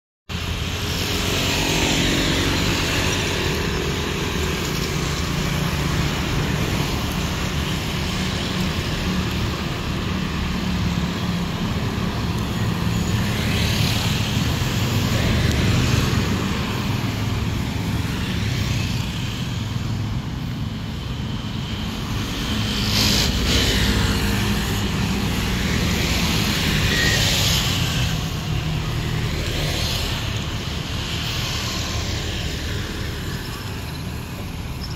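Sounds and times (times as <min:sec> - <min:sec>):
cars passing: 0:00.3 - 0:34.9
low traffic rumble: 0:00.3 - 0:34.9
scooters passing: 0:00.3 - 0:34.9.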